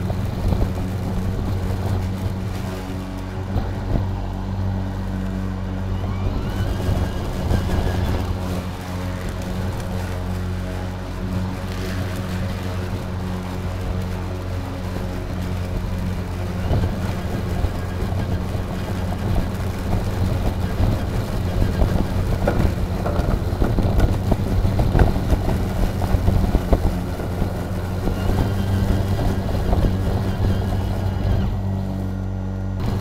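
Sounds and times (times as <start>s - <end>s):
electric lawn mower humming: 0.0s - 33.0s.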